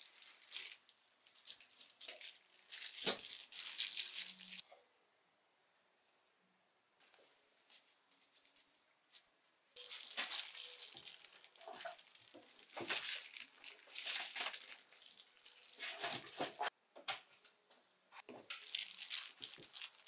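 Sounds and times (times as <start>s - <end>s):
plastic gloves crinkling: 0.0s - 4.6s, 7.0s - 16.8s, 18.2s - 20.0s.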